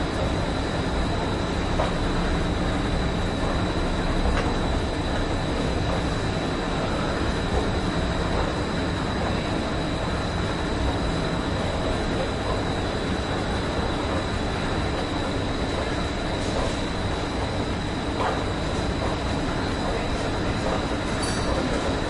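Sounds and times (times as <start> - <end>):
escalator machinery rumbling: 0.0 - 22.0.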